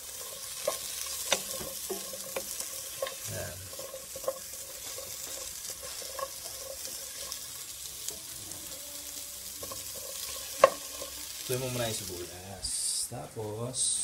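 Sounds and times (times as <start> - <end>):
spatula scraping a pan: 0.0 - 12.2
onions sizzling in a pan: 0.0 - 14.0.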